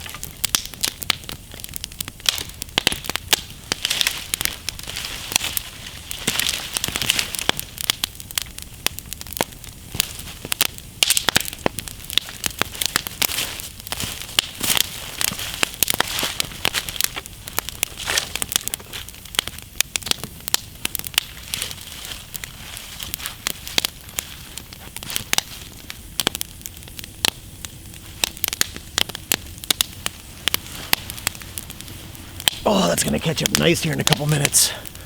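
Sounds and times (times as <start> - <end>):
campfire snapping and popping: 0.0 - 35.0
hiss of flames: 0.0 - 35.0.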